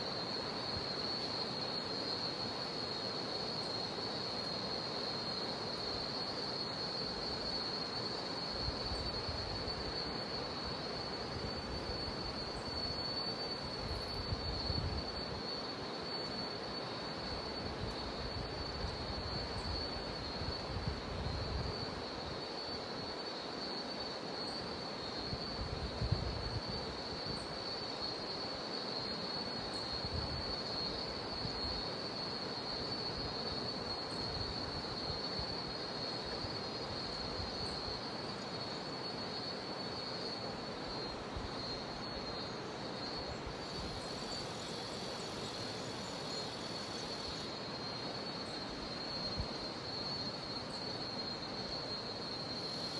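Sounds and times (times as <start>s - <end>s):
cicada drone: 0.0s - 52.9s.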